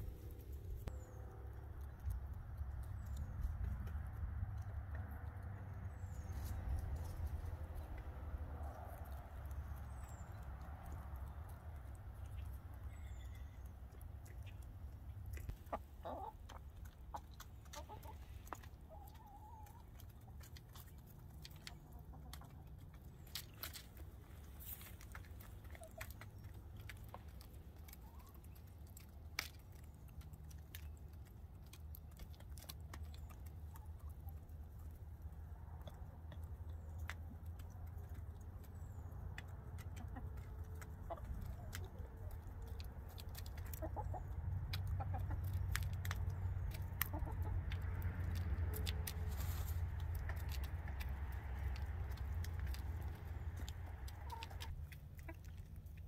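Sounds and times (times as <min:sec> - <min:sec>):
hens clucking softly: 0:09.8 - 0:56.0.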